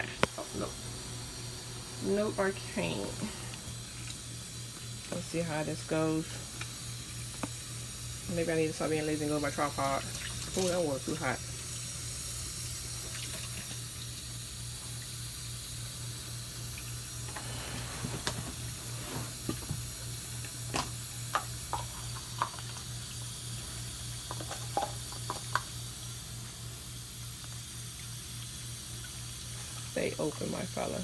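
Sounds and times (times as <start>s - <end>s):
low steady hum: 0.0s - 31.0s
tap water running into tub: 0.0s - 31.0s.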